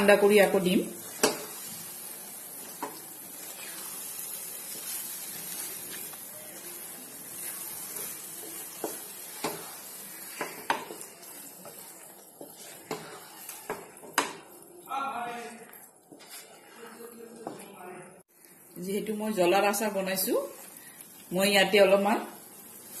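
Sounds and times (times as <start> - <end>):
low sizzle: 0.0 - 23.0
spatula stirring paste in a pan: 0.1 - 18.6.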